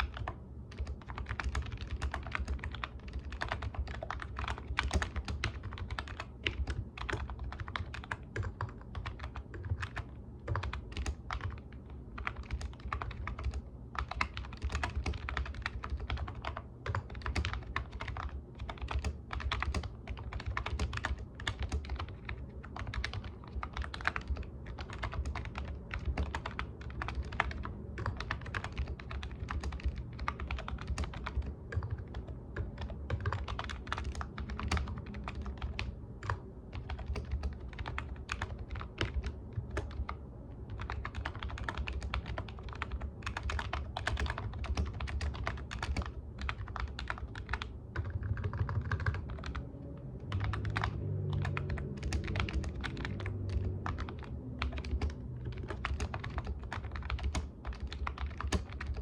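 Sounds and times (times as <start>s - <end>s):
computer keyboard typing: 0.0s - 49.6s, 50.2s - 59.0s
steady low hum: 0.0s - 59.0s.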